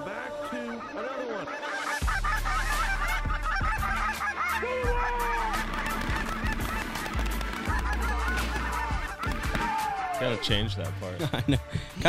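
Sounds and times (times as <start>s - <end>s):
geese honking: 0.0s - 10.9s.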